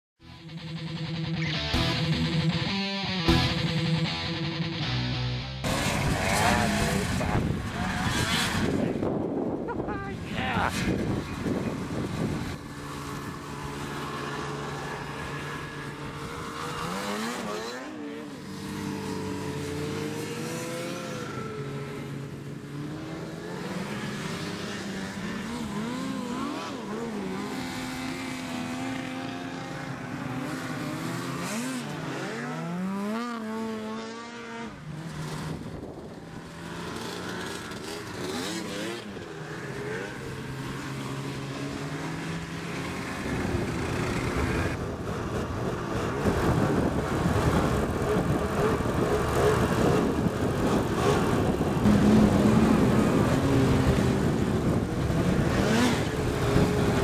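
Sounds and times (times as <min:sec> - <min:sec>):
snowmobile engines revving: 0:05.6 - 0:57.0.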